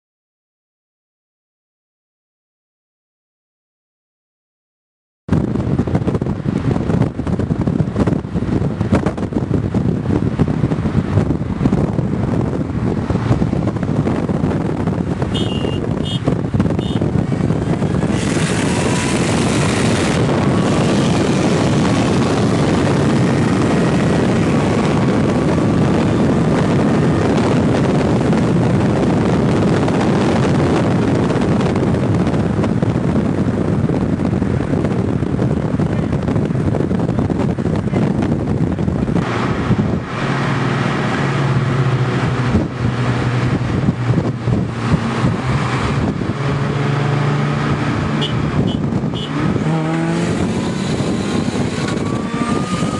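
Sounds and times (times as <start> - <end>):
car engine: 5.3 - 52.9
wind and road noise: 5.3 - 52.9.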